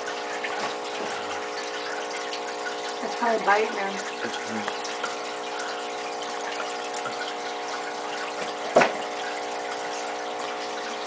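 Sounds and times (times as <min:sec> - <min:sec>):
aquarium pump humming: 0:00.0 - 0:11.0
water splashing and trickling: 0:00.0 - 0:11.0.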